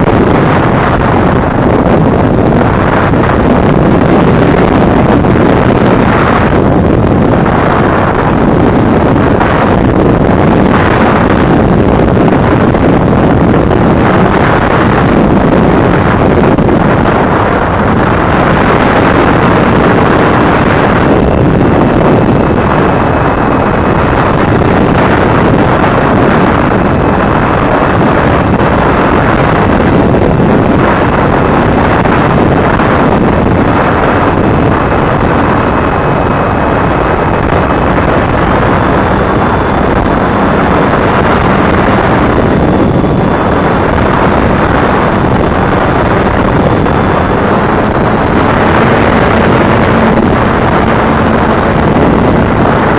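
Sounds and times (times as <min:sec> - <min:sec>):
wind rush on microphone: 0:00.0 - 0:52.9.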